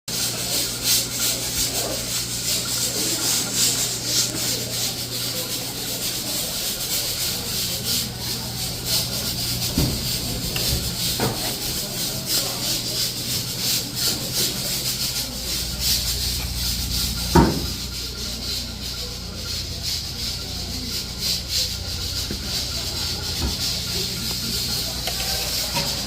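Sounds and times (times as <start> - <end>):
rubbing and scraping: 0.1 - 26.0
steady hum: 0.2 - 26.0.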